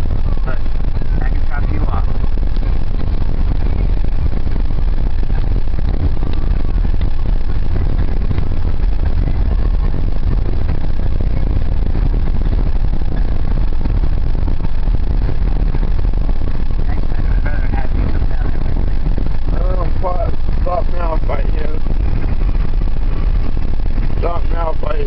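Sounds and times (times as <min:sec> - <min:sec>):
car interior engine rumble: 0:00.0 - 0:25.0.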